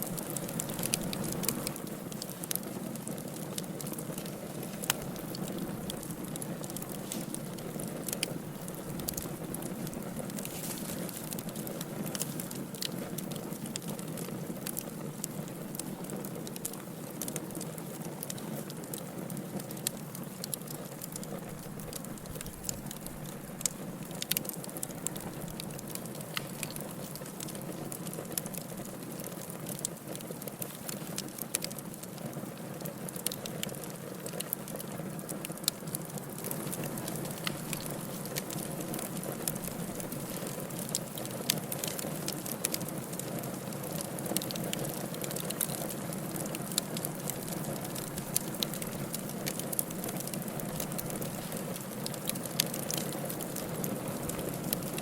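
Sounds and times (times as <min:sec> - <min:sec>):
fire crackles and pops: 0:00.0 - 0:55.0
wood fire hissing and rumbling: 0:00.0 - 0:55.0.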